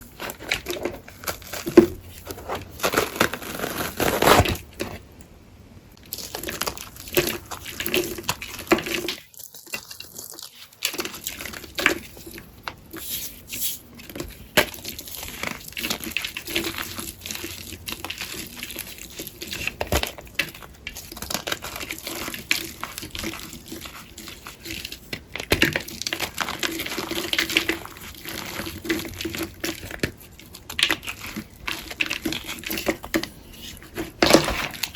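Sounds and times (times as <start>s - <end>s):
wet sponge squishing and crackling: 0.0s - 5.2s, 6.0s - 34.9s.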